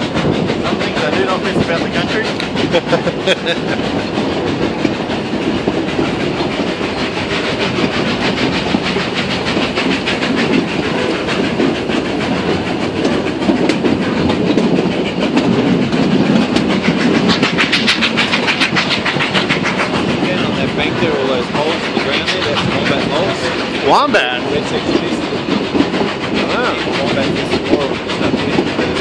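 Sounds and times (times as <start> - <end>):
train rumble: 0.0 - 29.0
wheels clattering on rails: 0.0 - 29.0.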